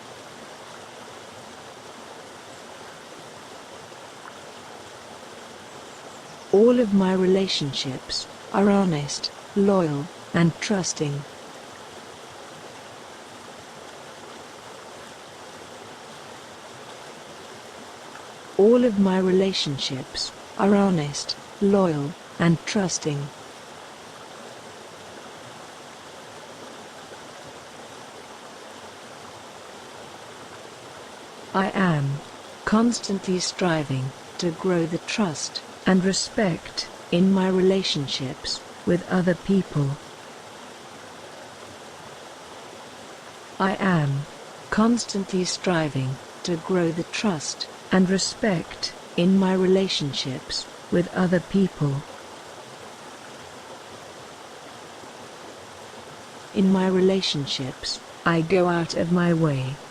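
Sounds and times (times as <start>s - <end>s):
river rushing over boulders: 0.0s - 59.9s.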